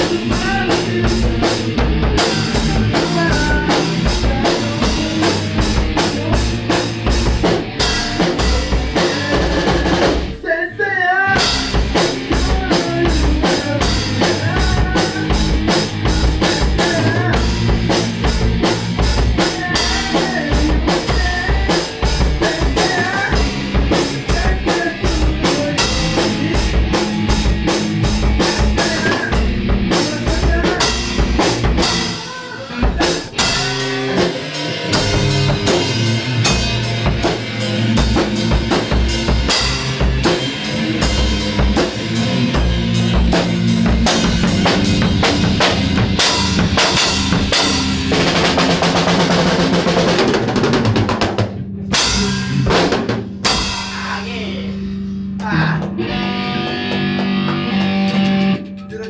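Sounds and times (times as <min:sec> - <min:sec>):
drum kit rock beat: 0:00.0 - 0:59.0.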